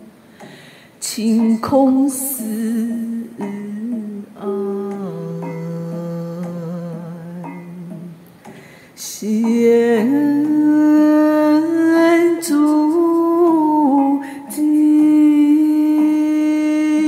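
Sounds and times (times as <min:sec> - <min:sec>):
person singing devotional song: 0:01.0 - 0:08.2, 0:09.0 - 0:17.0.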